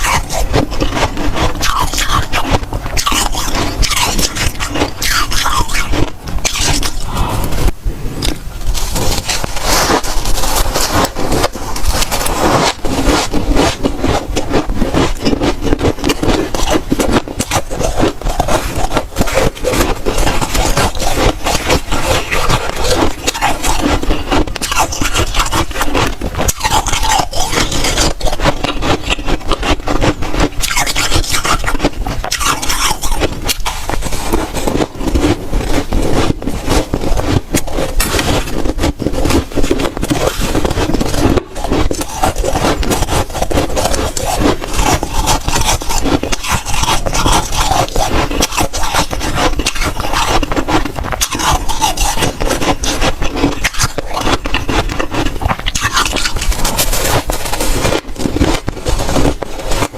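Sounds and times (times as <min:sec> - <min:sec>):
frost being crunched: 0:00.0 - 0:59.9.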